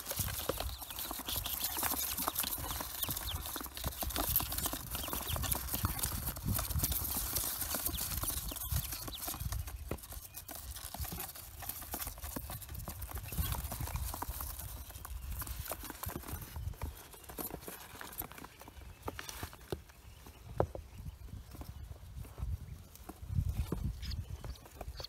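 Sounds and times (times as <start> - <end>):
ducklings peeping: 0.0 - 25.0
ducklings' feet scratching on cardboard: 0.0 - 25.0.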